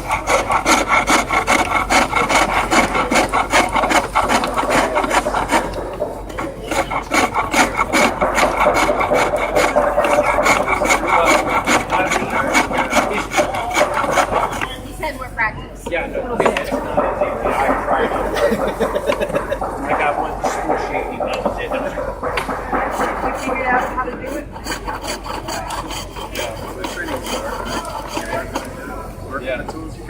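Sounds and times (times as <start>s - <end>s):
turning tool scraping wood: 0.0s - 30.0s.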